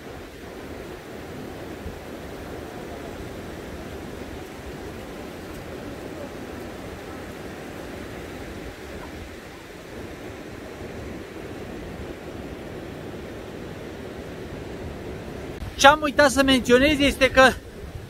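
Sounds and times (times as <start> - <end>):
sea surf on a beach: 0.0 - 18.0
wind: 0.0 - 18.0.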